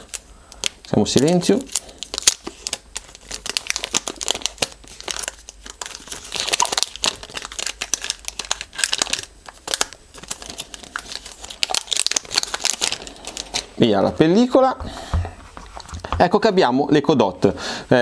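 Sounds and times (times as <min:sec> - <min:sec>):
plastic film crinkling: 0:00.0 - 0:16.5.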